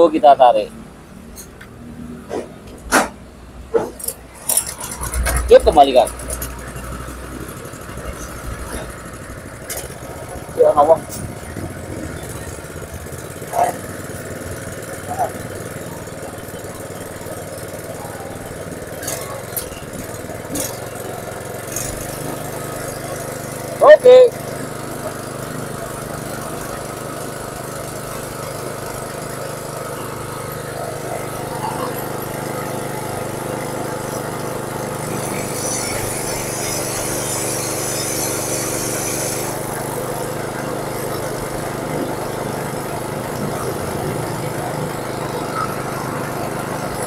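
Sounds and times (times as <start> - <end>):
small engine running steadily: 0.0 - 47.0.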